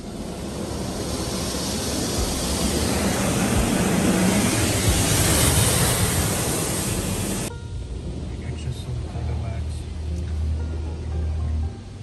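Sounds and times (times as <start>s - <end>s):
water jets spraying on car: 0.0s - 10.6s.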